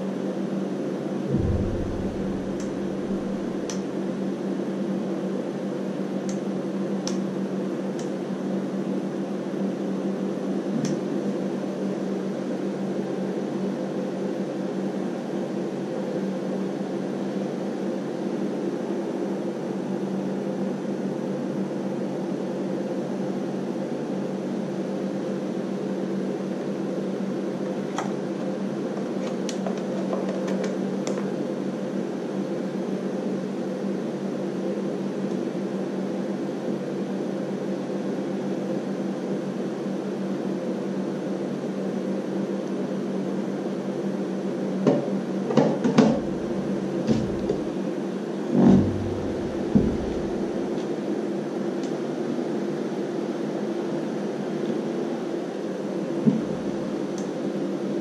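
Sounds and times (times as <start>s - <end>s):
fan whirring and humming: 0.0s - 58.0s.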